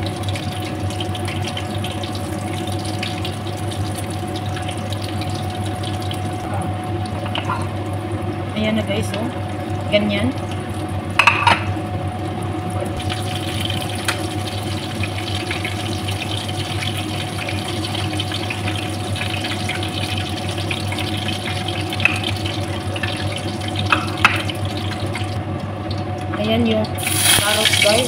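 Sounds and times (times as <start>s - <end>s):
chicken sizzling in hot oil: 0.0s - 11.2s, 11.8s - 25.4s, 26.9s - 28.0s
low steady hum: 0.0s - 28.0s.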